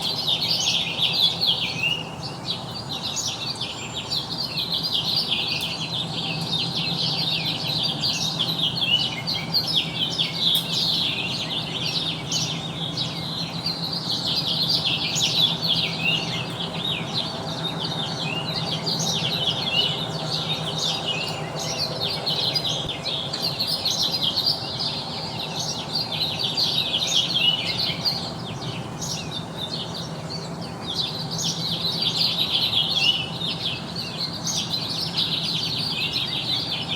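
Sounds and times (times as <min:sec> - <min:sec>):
many small birds chirping: 0:00.0 - 0:36.9.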